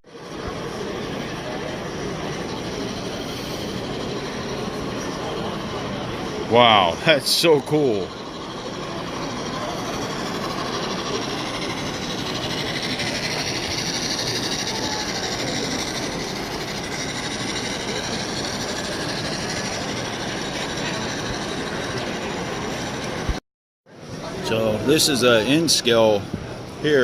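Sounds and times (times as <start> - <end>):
model train wheels rolling on rail: 0.1 - 23.4.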